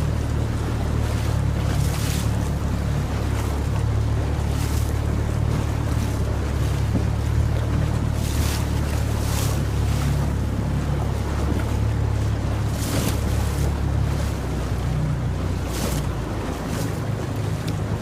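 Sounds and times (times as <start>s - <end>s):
boat motor humming: 0.0s - 18.0s
wind and water noise: 0.0s - 18.0s.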